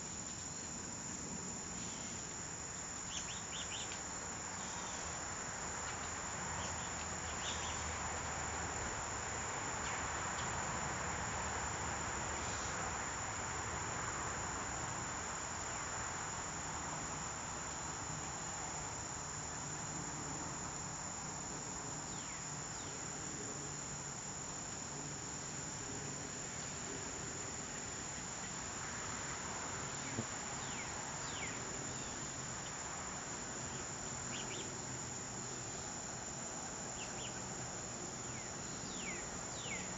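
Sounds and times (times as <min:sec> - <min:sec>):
background hiss: 0:00.0 - 0:39.9
insects trilling: 0:00.0 - 0:39.9.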